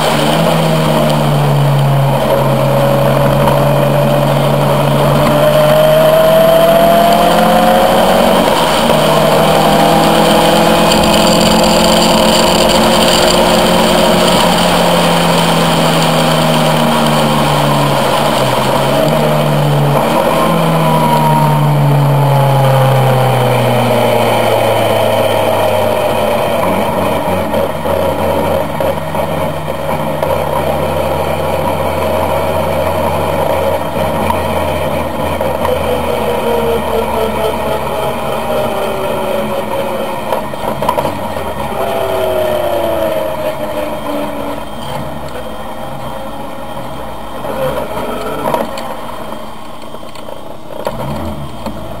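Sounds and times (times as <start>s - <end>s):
car engine at low revs: 0.0s - 52.0s.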